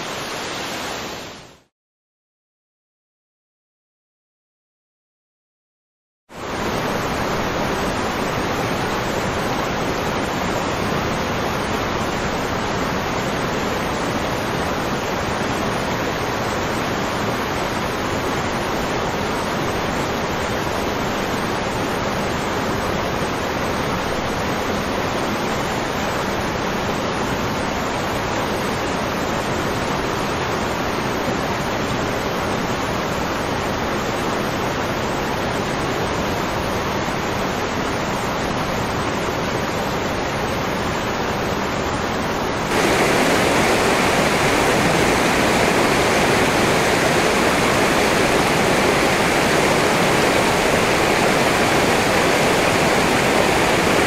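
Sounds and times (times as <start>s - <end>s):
steady rushing noise: 6.3s - 54.0s
stream flowing over rocks: 6.4s - 54.0s.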